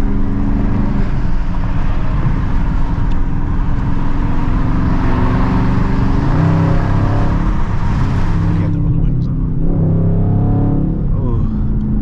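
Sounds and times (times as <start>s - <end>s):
loud car exhaust under way: 0.0s - 12.0s.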